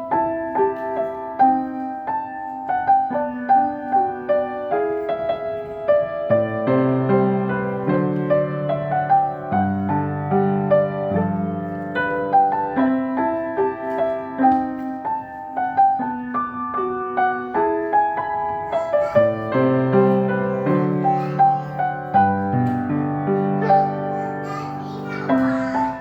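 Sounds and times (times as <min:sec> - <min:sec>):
solo piano playing gentle piece: 0:00.0 - 0:26.0.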